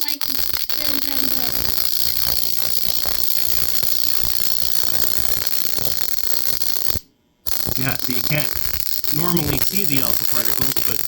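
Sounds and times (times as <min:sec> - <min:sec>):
spark gap crackling: 0:00.0 - 0:11.0.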